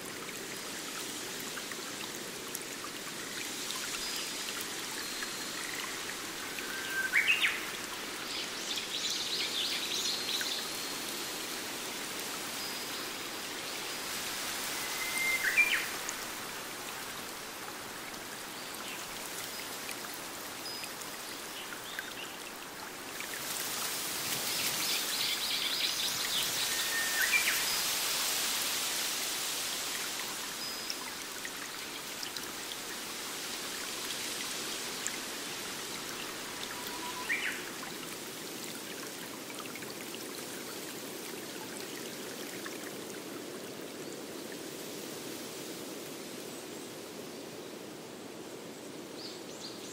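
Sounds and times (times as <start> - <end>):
stream running over cascade: 0.0 - 49.9.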